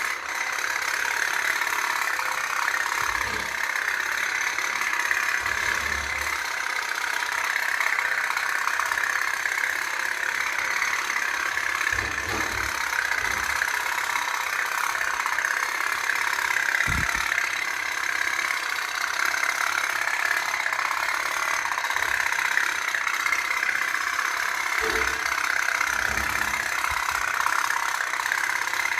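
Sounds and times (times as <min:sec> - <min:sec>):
toy steam boat putt-putting: 0:00.0 - 0:28.9.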